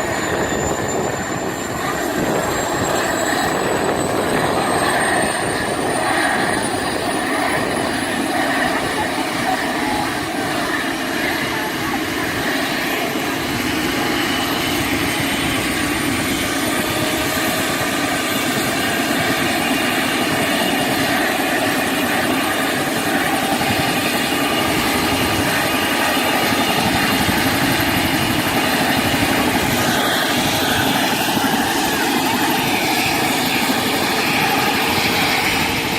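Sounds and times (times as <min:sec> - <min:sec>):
helicopter engine and rotor: 0:00.0 - 0:35.9.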